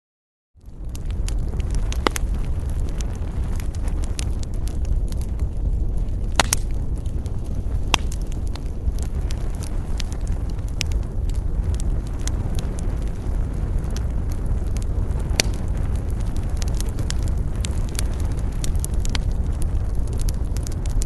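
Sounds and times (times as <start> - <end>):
low fire rumble: 0.6 - 21.0
wood fire crackling: 0.6 - 21.0.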